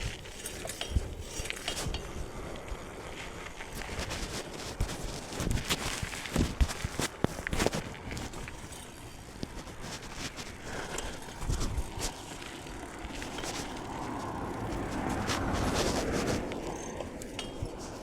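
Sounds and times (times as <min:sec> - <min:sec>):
bike clicks and rattles: 0:00.0 - 0:18.0
bike tyres on dirt: 0:00.0 - 0:18.0.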